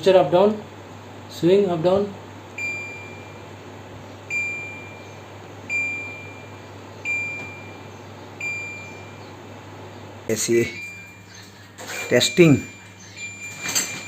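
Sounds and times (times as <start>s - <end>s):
air conditioner beeping: 0.0s - 14.0s.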